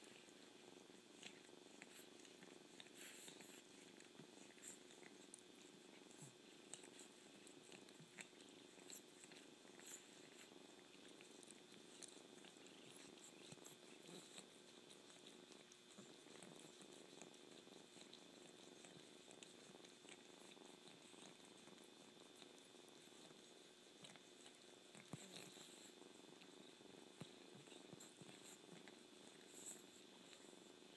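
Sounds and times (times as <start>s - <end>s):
cat licking fur: 0.0s - 30.9s
cat purring: 0.0s - 30.9s.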